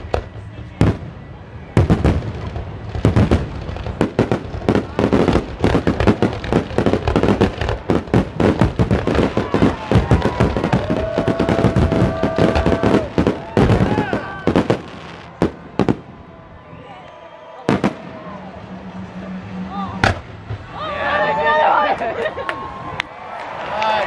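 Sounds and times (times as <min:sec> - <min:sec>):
fireworks bangs and crackles: 0:00.0 - 0:16.8, 0:17.6 - 0:20.7.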